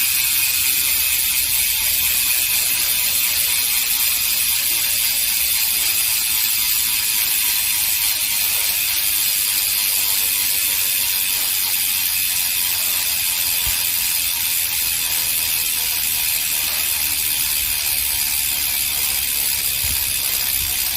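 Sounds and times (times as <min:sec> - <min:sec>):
bicycle freehub clicking buzz: 0:00.0 - 0:20.9.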